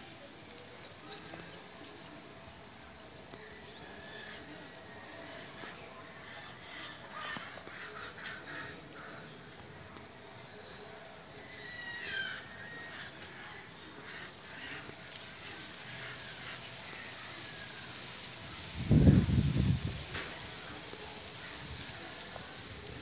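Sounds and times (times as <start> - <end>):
outdoor background noise: 0.0 - 23.0
small birds chirping: 0.0 - 23.0.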